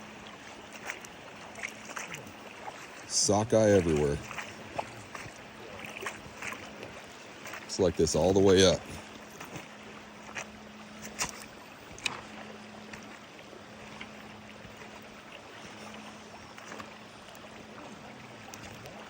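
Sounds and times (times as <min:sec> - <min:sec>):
faint constant hum: 0:00.0 - 0:19.0
river water rushing: 0:00.0 - 0:19.0.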